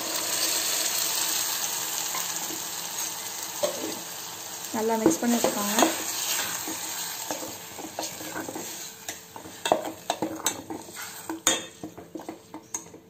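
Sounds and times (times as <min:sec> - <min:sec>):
tomato sizzling in oil: 0:00.0 - 0:13.0.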